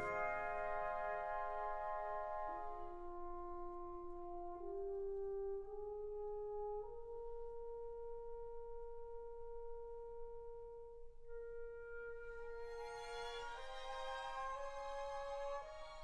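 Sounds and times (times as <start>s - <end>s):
slow music of long held notes: 0.0s - 16.0s.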